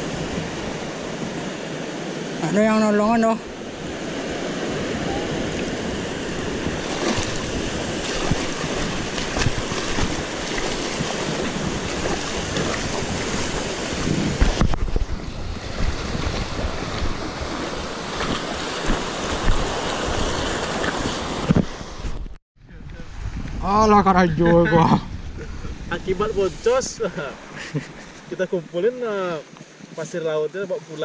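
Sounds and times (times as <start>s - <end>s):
wind buffeting microphone: 0.0s - 2.4s, 3.2s - 28.3s
waves washing on shore: 0.0s - 31.0s.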